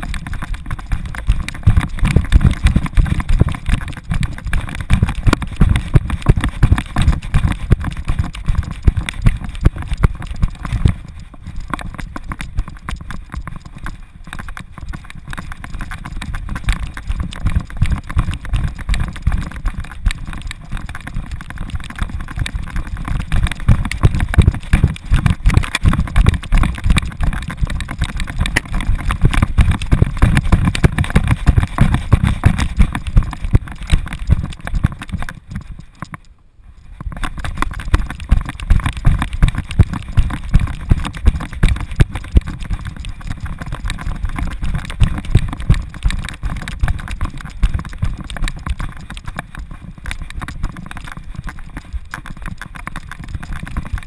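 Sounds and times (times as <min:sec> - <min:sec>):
camera knocking and rattling: 0:00.0 - 0:36.3, 0:36.9 - 0:54.0
wind rumble on microphone: 0:00.0 - 0:54.0.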